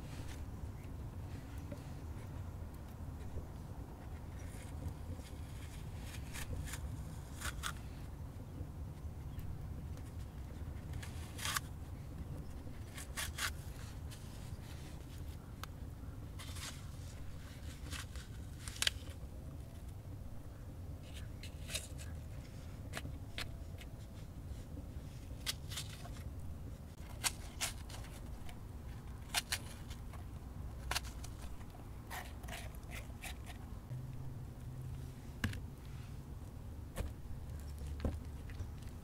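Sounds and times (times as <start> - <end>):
low background rumble: 0.0 - 39.0.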